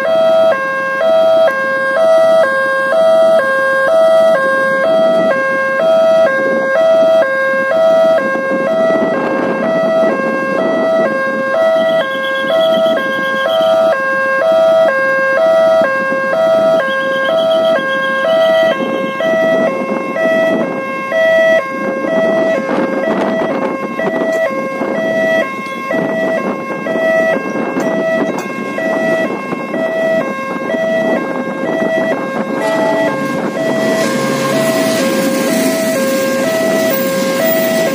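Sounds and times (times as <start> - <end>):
level crossing alarm two-tone: 0.0 - 37.9.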